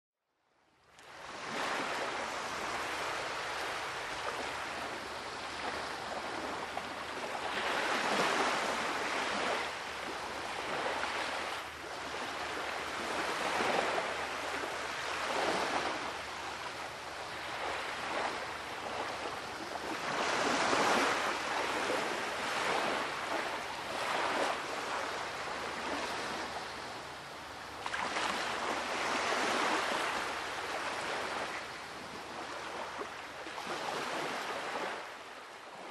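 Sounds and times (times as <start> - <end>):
waves washing onto shore: 0.9 - 35.9.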